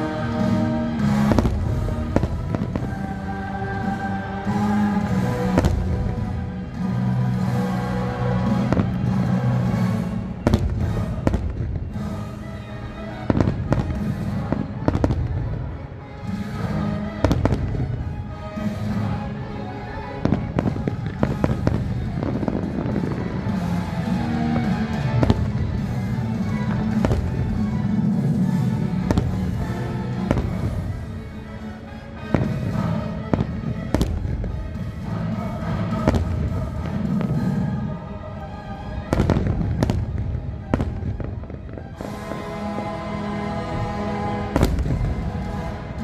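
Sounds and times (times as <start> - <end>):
fireworks cracks and booms: 0.0 - 7.6, 8.3 - 15.6, 16.4 - 19.2, 20.1 - 31.5, 32.2 - 46.0
music: 0.0 - 46.0.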